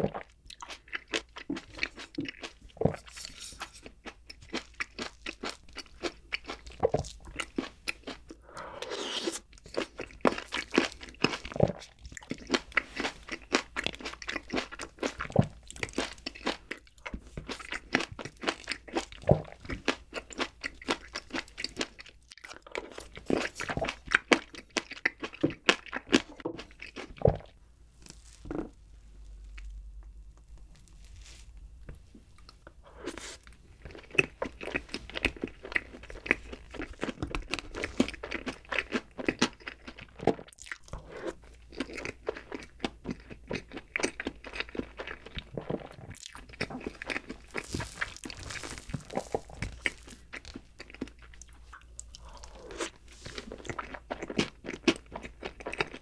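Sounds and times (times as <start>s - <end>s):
close-miked chewing: 0.0s - 27.6s, 32.3s - 56.0s.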